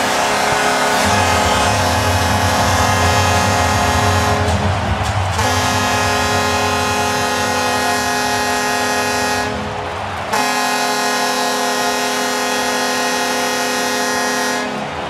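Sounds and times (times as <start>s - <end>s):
goal horn blasts: 0.0s - 14.9s.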